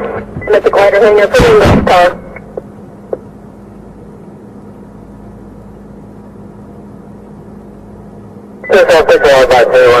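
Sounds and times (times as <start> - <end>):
constant low hum: 0.0 - 10.0.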